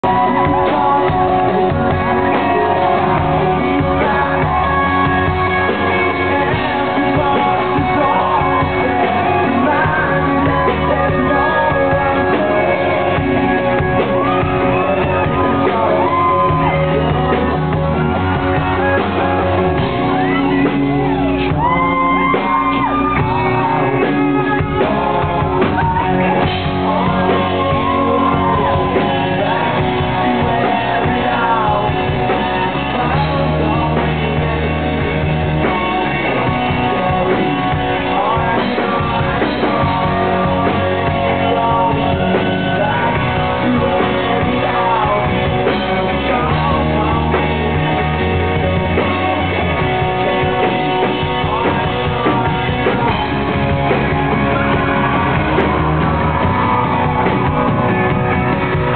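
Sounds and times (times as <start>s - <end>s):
lead singer: 0.0s - 58.9s
rock band playing live: 0.0s - 58.9s.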